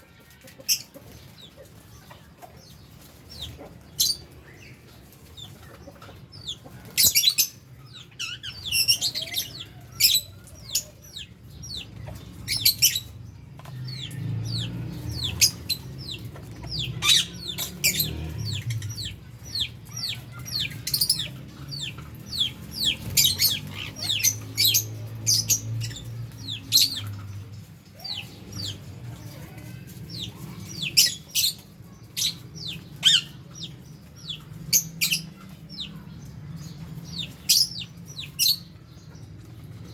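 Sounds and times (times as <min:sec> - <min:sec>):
small parrots chirping: 0:02.6 - 0:28.9, 0:30.0 - 0:39.5.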